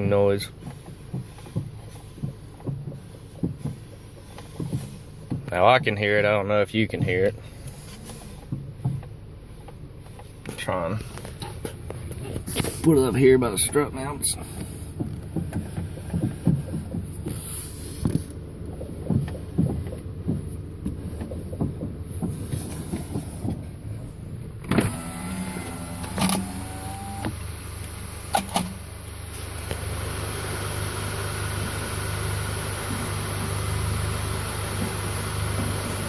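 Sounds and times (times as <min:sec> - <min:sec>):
suspension clunking and popping: 0:00.0 - 0:36.0
motor hum: 0:06.8 - 0:36.0.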